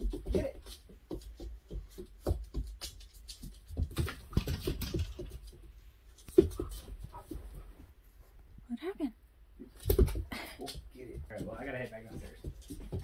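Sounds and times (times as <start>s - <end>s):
puppy claws pattering on floor: 0.0s - 8.0s, 9.6s - 13.0s.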